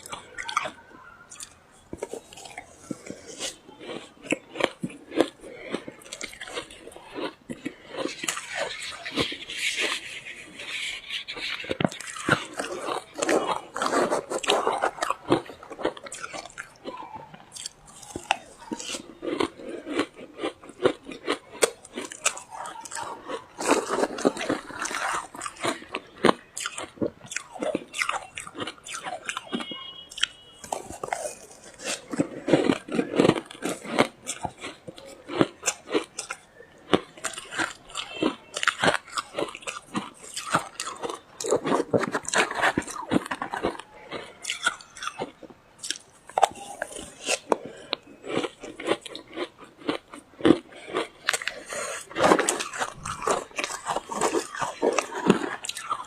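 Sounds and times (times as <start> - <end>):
ice being crunched and chewed: 0.0 - 56.0.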